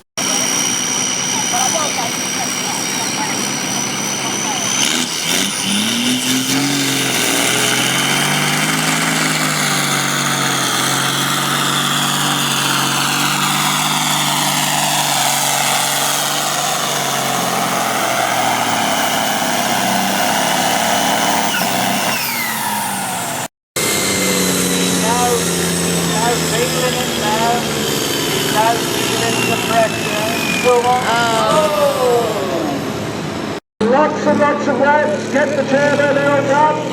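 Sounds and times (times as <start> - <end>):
tractor engine at high revs: 0.0 - 36.9.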